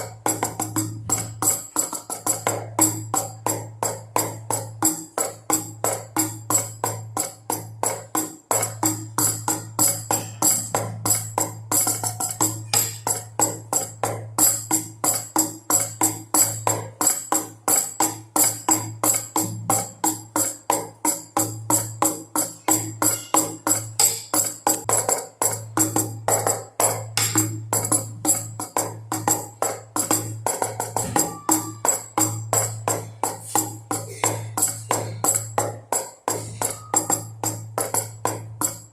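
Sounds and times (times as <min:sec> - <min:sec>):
drum beats: 0:00.0 - 0:38.9.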